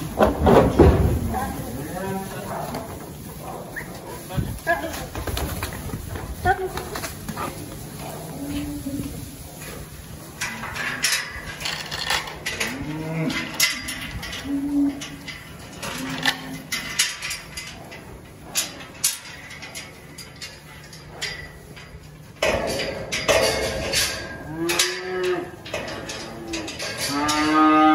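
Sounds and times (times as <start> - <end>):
calves bawling: 0.0 - 27.9.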